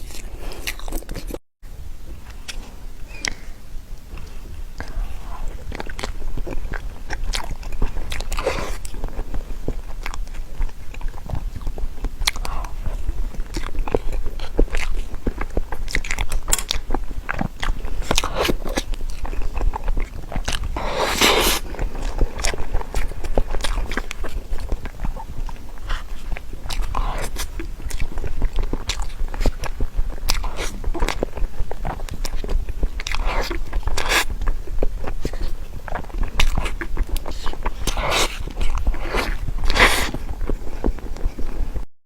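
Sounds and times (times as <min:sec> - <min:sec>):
biting and chewing crunchy cake: 0:00.0 - 0:01.5, 0:02.1 - 0:41.8.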